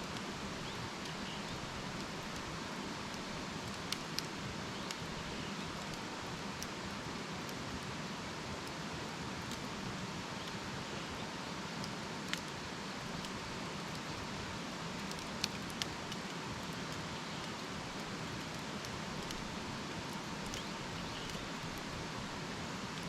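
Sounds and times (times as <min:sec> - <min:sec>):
campfire hissing: 0:00.0 - 0:23.0
fire crackles and pops: 0:00.0 - 0:23.0.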